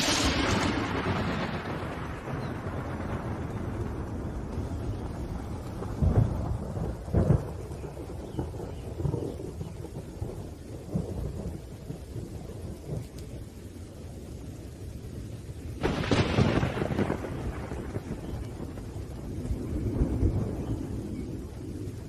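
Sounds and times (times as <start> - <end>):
loud thunder crack: 0.0 - 13.1, 15.8 - 21.9
rolling thunder: 0.0 - 22.0
steady rain: 0.0 - 22.0.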